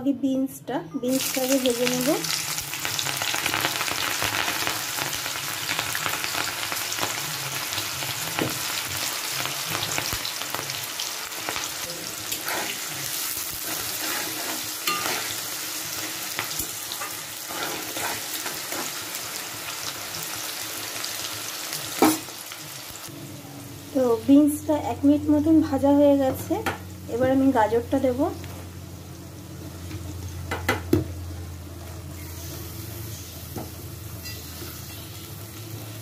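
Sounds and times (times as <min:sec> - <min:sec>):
beans sizzling in hot oil: 0:01.1 - 0:36.0.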